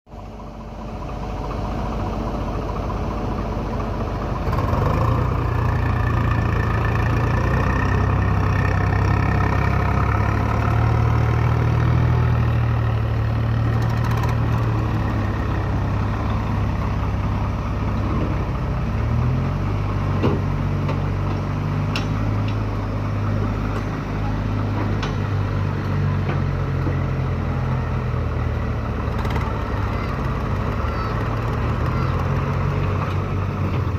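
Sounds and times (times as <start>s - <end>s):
diesel tractor engine running: 0.1s - 33.9s.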